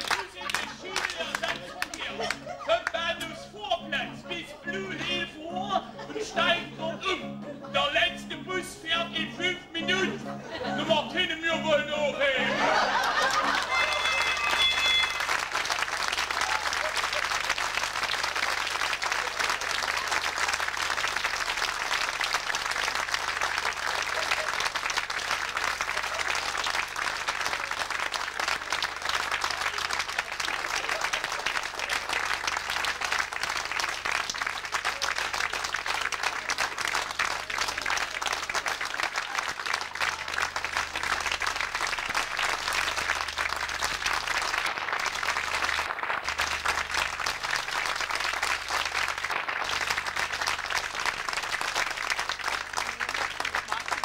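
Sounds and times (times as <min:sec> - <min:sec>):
audience applauding: 0:00.0 - 0:06.6, 0:12.2 - 0:54.0.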